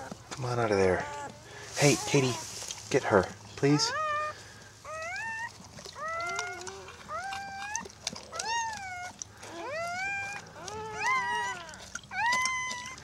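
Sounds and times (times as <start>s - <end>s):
puppy crying: 0.0s - 2.5s, 3.6s - 13.0s.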